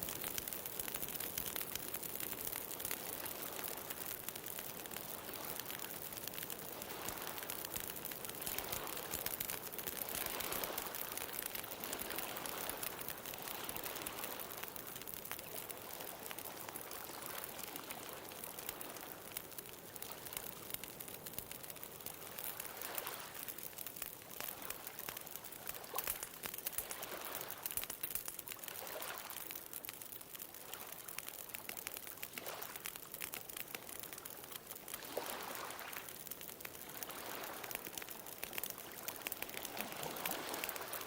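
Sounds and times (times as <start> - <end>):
bonfire crackling: 0.0 - 41.0.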